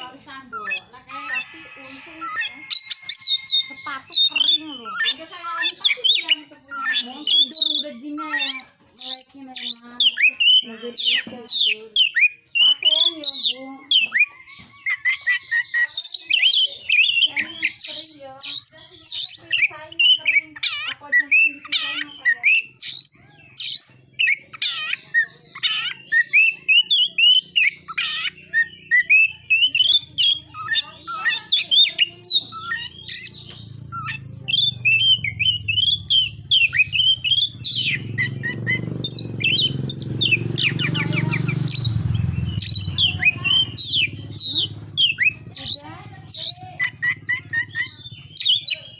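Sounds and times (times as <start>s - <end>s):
bird singing chirps and trills: 0.0s - 48.9s.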